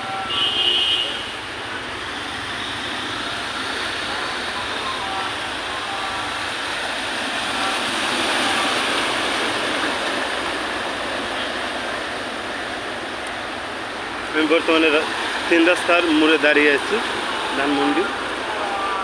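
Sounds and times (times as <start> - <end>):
car splashing through floodwater: 0.0 - 19.0.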